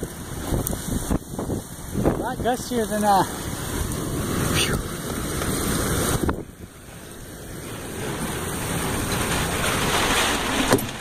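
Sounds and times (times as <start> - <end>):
storm wind rushing across microphone: 0.0 - 11.0.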